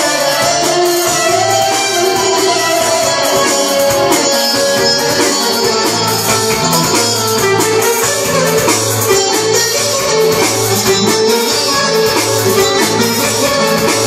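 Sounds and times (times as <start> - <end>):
bouzouki melody: 0.0 - 14.0.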